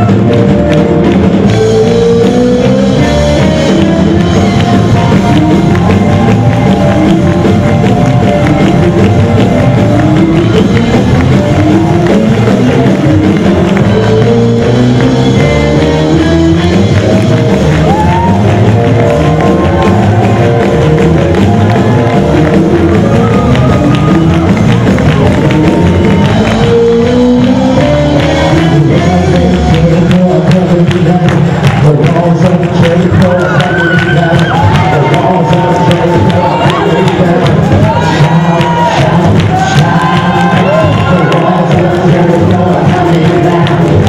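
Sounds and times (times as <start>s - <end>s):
drum kit: 0.0s - 44.0s
electric and acoustic guitars: 0.0s - 44.0s
keyboard: 0.0s - 44.0s.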